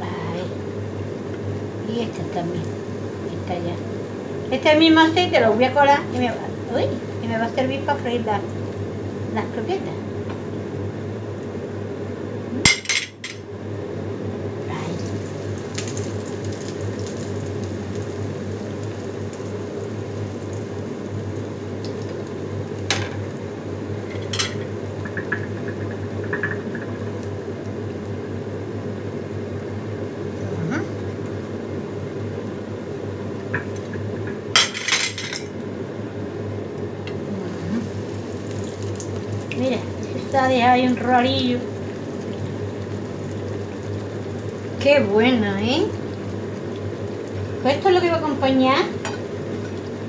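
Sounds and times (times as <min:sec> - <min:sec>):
bread frying in oil: 0:00.0 - 0:50.0
steady hum: 0:00.0 - 0:50.0.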